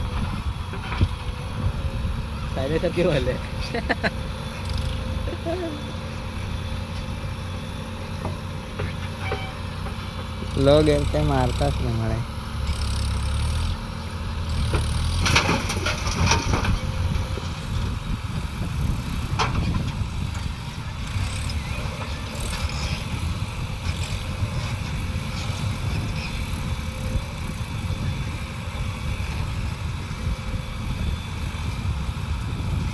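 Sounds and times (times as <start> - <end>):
diesel engine rumbling: 0.0 - 32.9.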